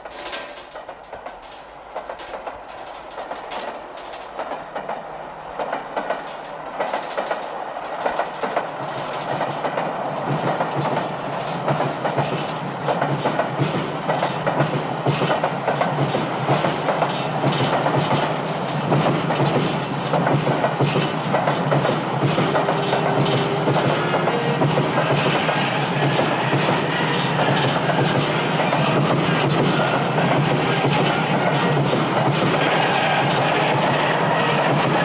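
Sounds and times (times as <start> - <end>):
train wheels clattering on rails: 0.0 - 35.0.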